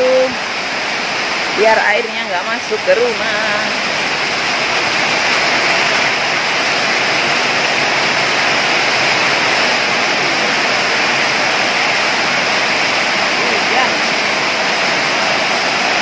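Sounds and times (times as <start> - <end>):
heavy rain on a metal roof: 0.0 - 16.0.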